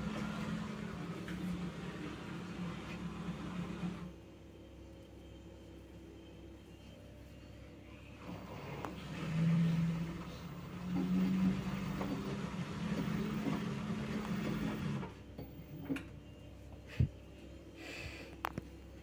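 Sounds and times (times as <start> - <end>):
washing machine spinning: 0.0 - 17.8.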